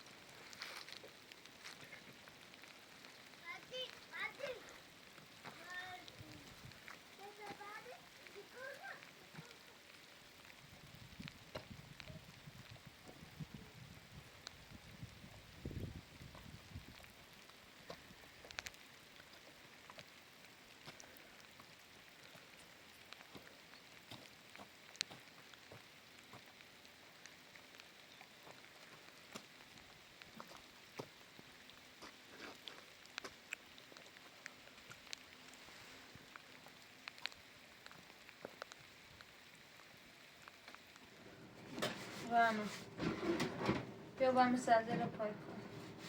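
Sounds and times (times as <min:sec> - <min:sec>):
light rain hissing: 0:00.0 - 0:46.0
raindrops ticking: 0:00.0 - 0:46.0.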